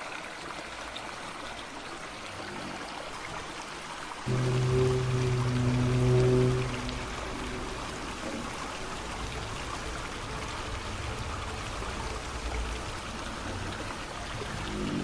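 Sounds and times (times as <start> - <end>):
water pouring and streaming: 0.0 - 15.0.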